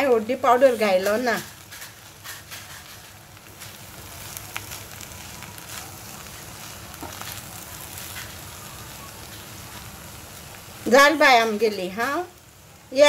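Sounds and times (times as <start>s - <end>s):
faint sizzle: 0.0s - 13.0s
spatula stirring food in a pan: 0.0s - 13.0s.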